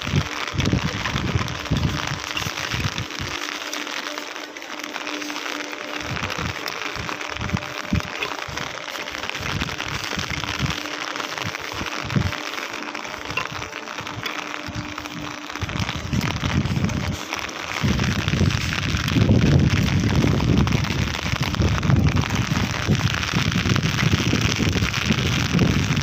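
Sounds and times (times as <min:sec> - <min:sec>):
rain hissing on wet pavement: 0:00.0 - 0:26.0.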